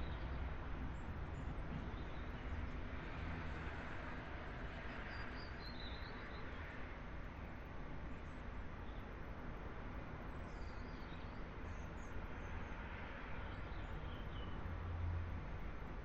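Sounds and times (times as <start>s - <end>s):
distant city traffic hum: 0.0s - 16.0s.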